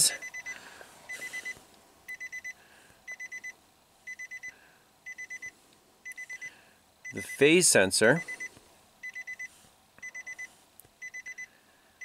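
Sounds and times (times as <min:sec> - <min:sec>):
electronic alarm beeping: 0:00.1 - 0:04.5, 0:05.1 - 0:07.5, 0:08.1 - 0:11.5.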